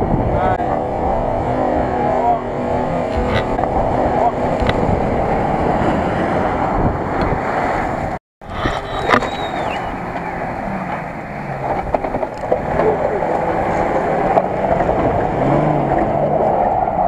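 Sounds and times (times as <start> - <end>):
off-road engines under load: 0.0 - 17.0
wind noise on microphone: 0.0 - 17.0.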